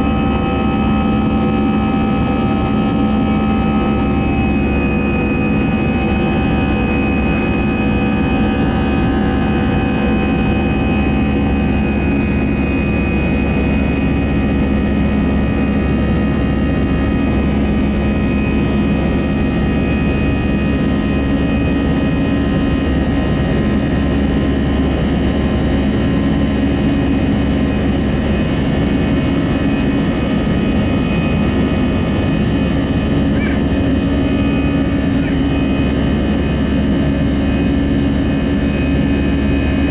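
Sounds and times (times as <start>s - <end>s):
constant humming tones: 0.0s - 39.9s
jet engine and airflow roar: 0.0s - 39.9s.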